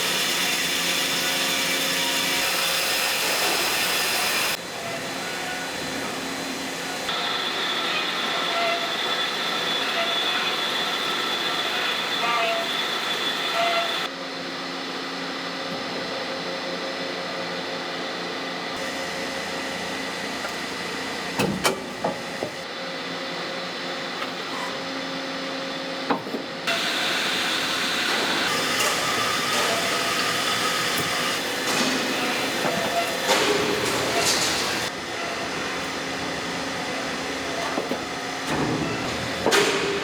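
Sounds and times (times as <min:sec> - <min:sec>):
factory machinery running: 0:00.0 - 0:14.1, 0:18.0 - 0:22.9, 0:26.1 - 0:40.0.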